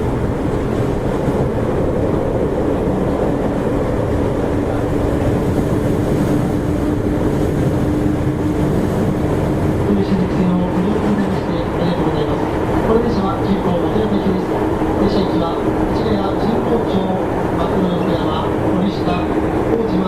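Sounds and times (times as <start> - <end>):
subway wheels rumbling on rail: 0.0 - 20.0.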